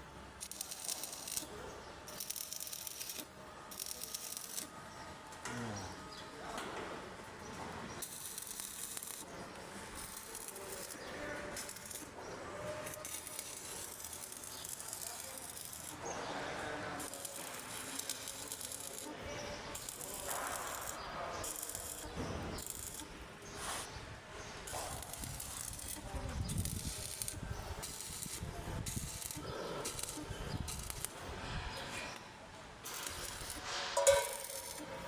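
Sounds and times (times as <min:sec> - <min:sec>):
welding arc crackling: 0:00.3 - 0:04.7, 0:08.0 - 0:32.2, 0:32.8 - 0:35.0.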